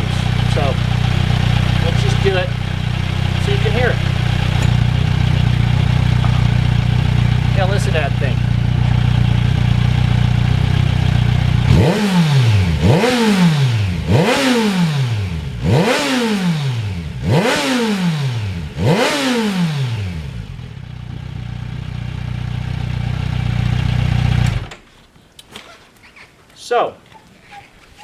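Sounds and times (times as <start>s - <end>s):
motorcycle engine idling and revving: 0.0s - 24.8s.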